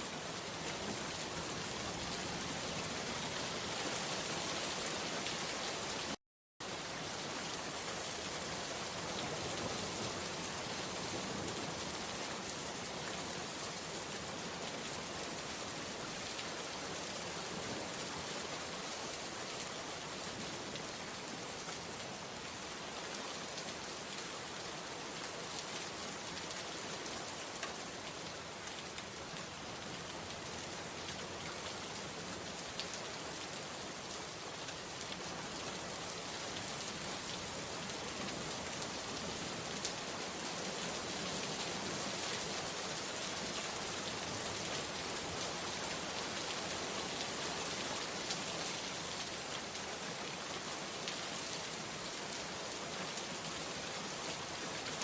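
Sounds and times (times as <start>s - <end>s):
rain falling: 0.0s - 55.0s
raindrops hitting a surface: 0.0s - 55.0s.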